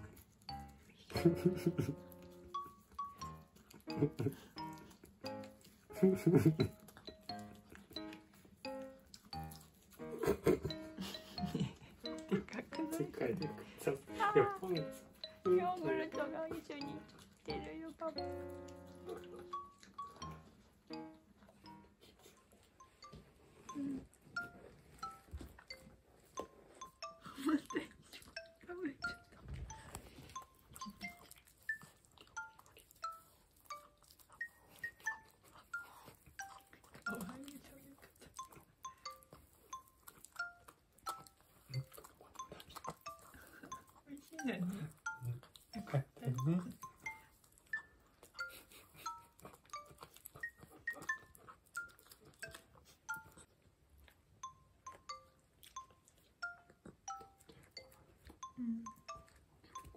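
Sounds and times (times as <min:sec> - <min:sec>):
dog chewing and licking: 0:00.0 - 0:59.9
soft chime-like music: 0:00.4 - 0:53.5, 0:54.4 - 0:59.9.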